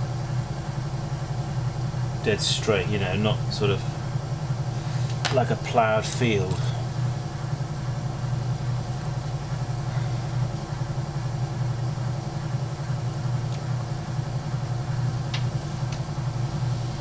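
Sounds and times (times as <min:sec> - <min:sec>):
potter's wheel motor humming: 0:00.0 - 0:17.0.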